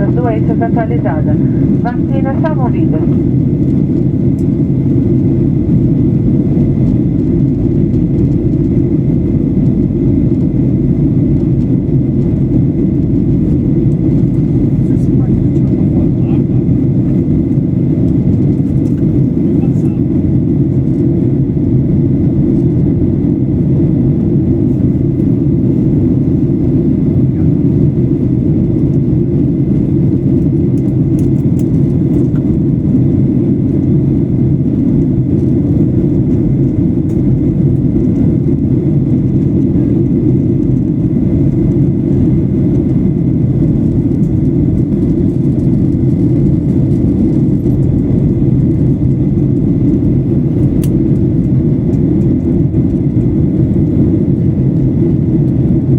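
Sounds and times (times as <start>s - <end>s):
jet engine and airflow rumble: 0.0s - 55.9s.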